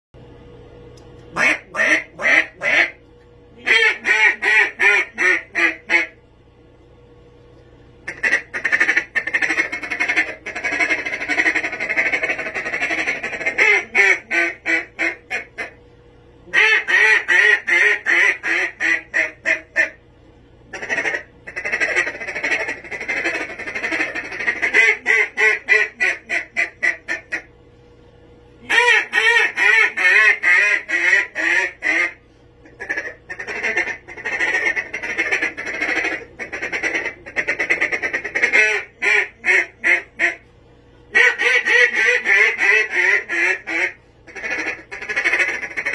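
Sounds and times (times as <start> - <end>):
duck call quacks: 1.3 - 3.0, 3.6 - 6.2, 8.1 - 15.8, 16.5 - 20.0, 20.7 - 27.5, 28.6 - 40.4, 41.1 - 45.9.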